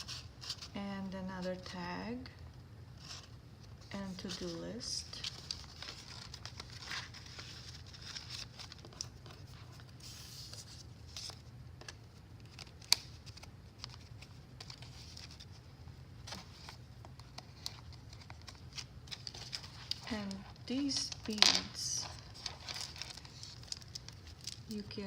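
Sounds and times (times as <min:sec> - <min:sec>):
paper rustling and crinkling: 0:03.0 - 0:25.0.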